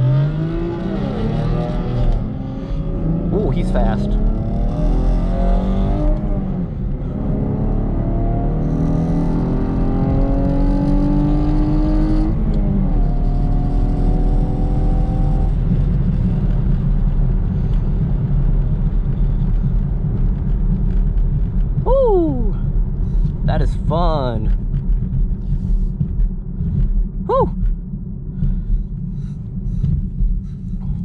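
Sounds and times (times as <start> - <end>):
car engine at full throttle: 0.0 - 31.0
road and wind rumble: 0.0 - 31.0.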